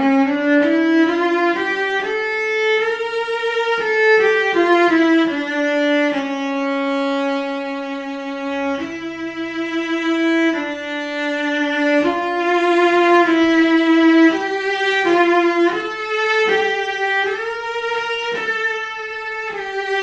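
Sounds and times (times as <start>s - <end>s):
bowed cello melody: 0.0s - 20.0s.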